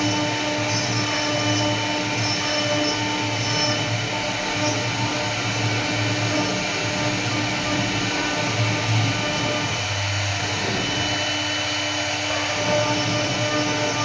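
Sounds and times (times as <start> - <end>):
wood router spindle whine: 0.0 - 14.0.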